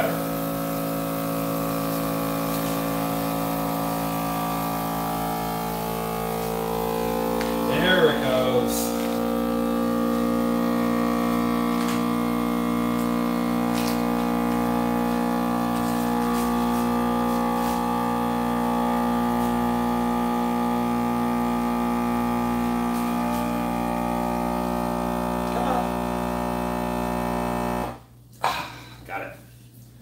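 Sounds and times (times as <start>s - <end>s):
vacuum sealer pump running: 0.0s - 28.2s.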